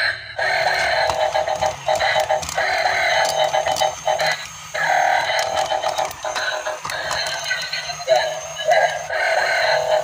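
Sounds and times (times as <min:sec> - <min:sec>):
toy buzzy electronic tune: 0:00.4 - 0:10.0
toy robot walking clicks: 0:00.4 - 0:10.0.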